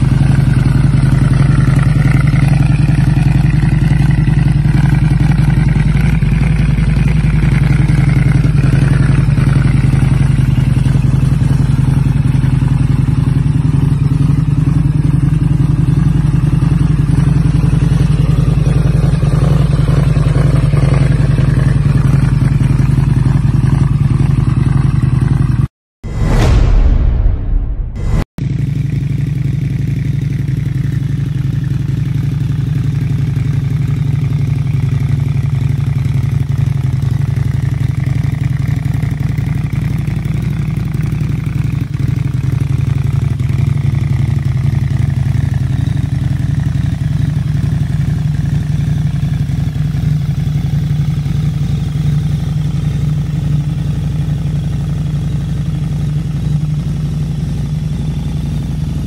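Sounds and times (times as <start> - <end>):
motorcycle engine idling: 0.0 - 25.7, 28.4 - 59.0.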